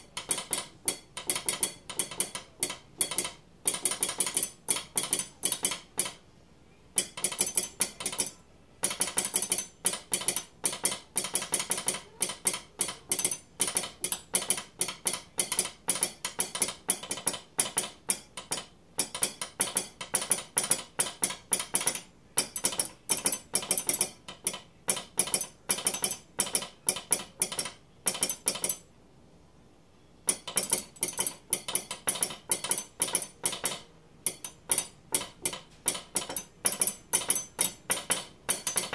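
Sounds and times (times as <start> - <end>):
metallic morse code clicks: 0.0 - 6.2, 7.0 - 28.9, 30.2 - 38.9.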